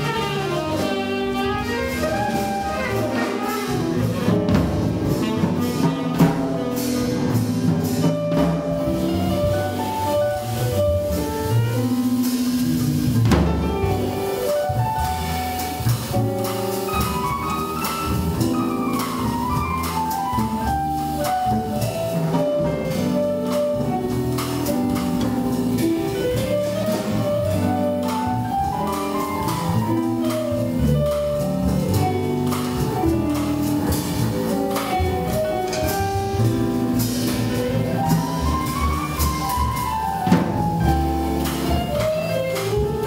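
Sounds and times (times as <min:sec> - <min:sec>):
double bass: 0:00.0 - 0:43.0
drum kit: 0:00.0 - 0:43.0
piano playing swing jazz: 0:00.0 - 0:43.0.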